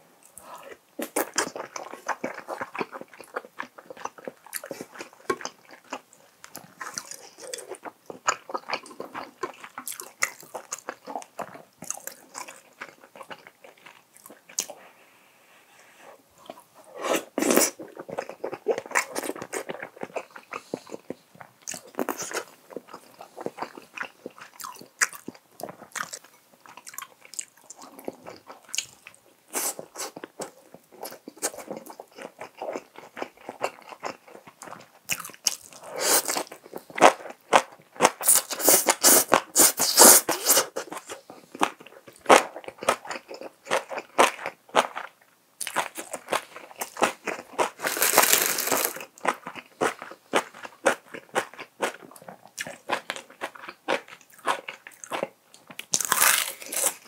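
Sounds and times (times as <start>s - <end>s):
man chewing with wet mouth sounds: 0.2s - 14.9s, 16.4s - 57.0s.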